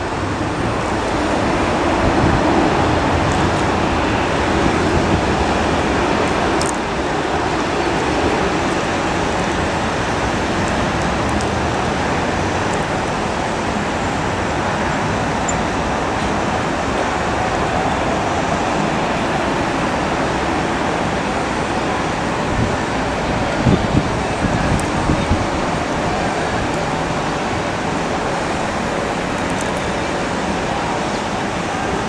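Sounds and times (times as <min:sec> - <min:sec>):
steady rushing noise: 0:00.0 - 0:32.0.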